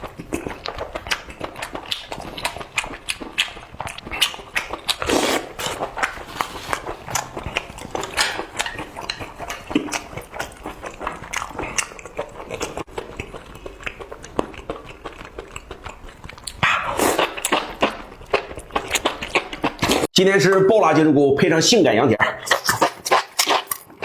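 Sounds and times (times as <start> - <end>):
chewing and biting: 0.0 - 20.1, 22.2 - 24.0.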